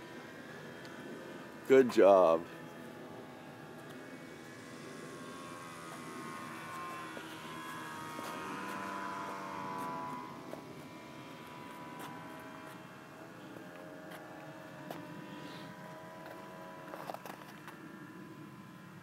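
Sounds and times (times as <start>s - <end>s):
model plane motor whine: 0.0s - 19.0s.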